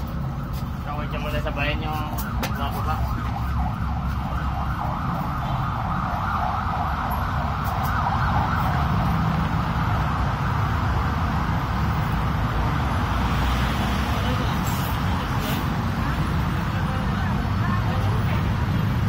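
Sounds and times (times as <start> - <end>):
bus engine idling with whine: 0.0 - 19.0.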